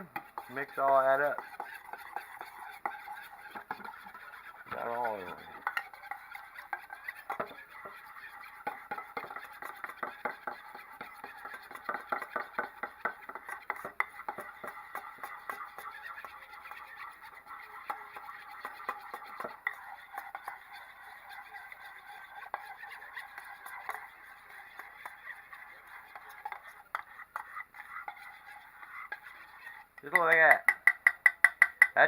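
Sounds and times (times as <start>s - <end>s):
spoon scraping a mixing bowl: 0.0s - 32.0s.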